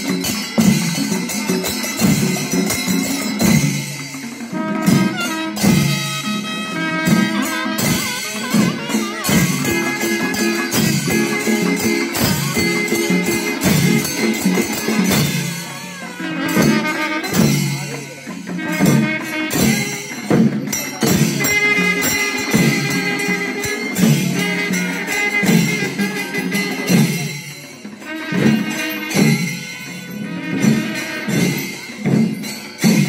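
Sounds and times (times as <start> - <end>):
fast percussion strokes: 0.0 - 33.0.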